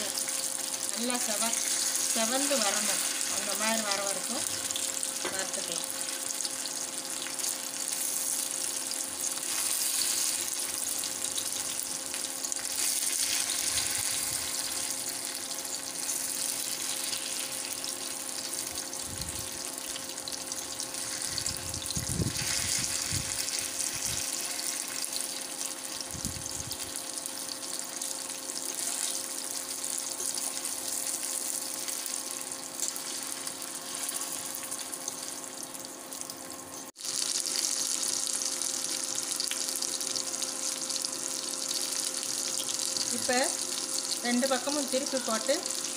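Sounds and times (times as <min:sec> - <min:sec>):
faint cooktop hum: 0:00.0 - 0:45.9
fish sizzling in oil: 0:00.0 - 0:45.9.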